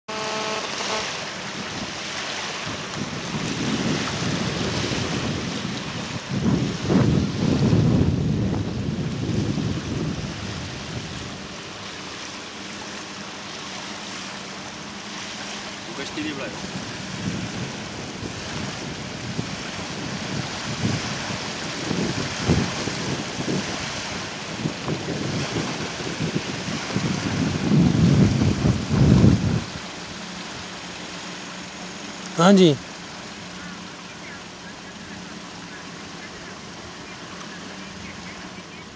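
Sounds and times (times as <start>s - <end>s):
small waves on shore: 0.1s - 38.9s
wind buffeting microphone: 1.3s - 12.2s, 12.8s - 38.9s.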